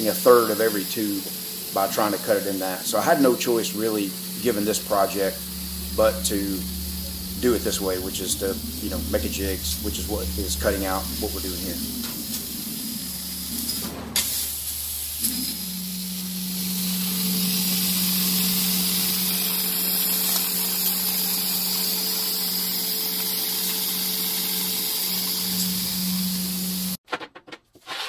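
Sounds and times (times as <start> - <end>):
laser cutter gas jet hiss: 0.0 - 27.0
machine low hum: 0.0 - 27.0.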